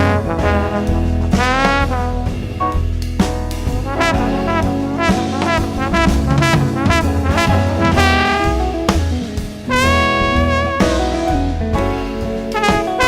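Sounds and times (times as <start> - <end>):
brass playing punchy notes: 0.0 - 2.9, 3.6 - 11.4, 12.5 - 13.0.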